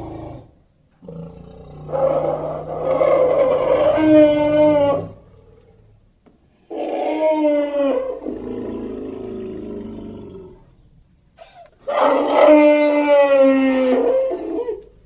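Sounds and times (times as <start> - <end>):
elephant-like roaring calls: 0.0 - 6.0, 6.7 - 10.8, 11.4 - 15.0.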